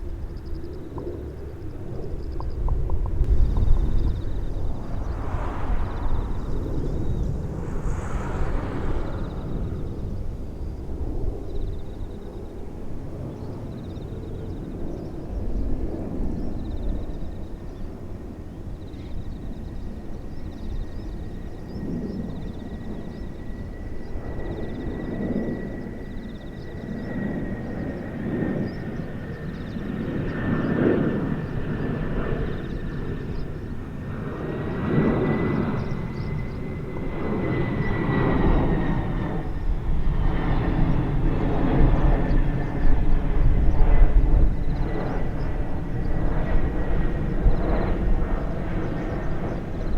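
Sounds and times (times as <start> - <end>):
jet airliner flying over: 0.0 - 49.9.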